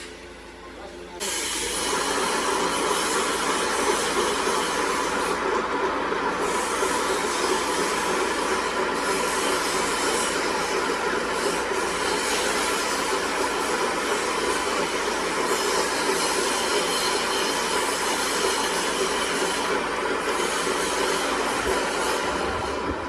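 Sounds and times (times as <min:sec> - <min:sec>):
workshop machine running: 0:00.0 - 0:23.0.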